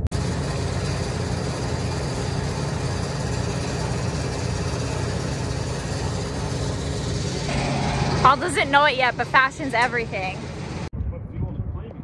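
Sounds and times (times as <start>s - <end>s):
fuel pump humming: 0.0s - 10.9s.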